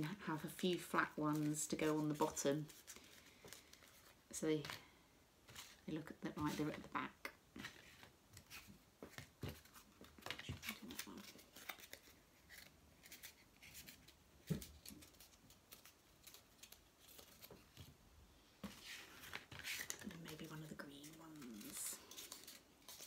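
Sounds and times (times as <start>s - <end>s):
paper crinkling and rustling: 0.6s - 4.9s, 7.6s - 18.0s, 18.6s - 23.0s.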